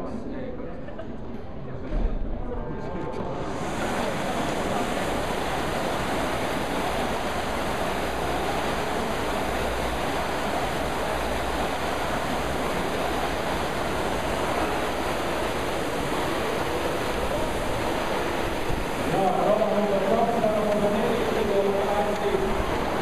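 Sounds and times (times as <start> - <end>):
rowing machine fans whooshing: 3.3 - 23.0.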